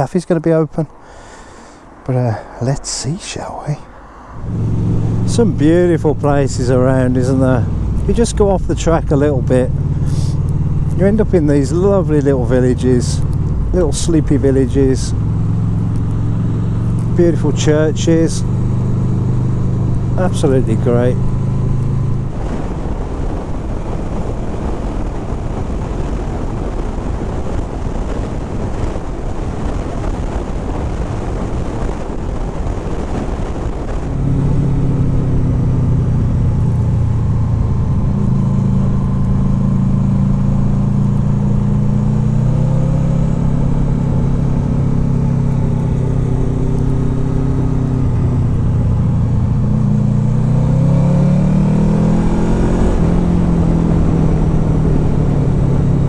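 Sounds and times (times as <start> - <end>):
wind and road noise: 0.0 - 56.0
motorcycle engine: 0.7 - 31.8, 32.4 - 56.0.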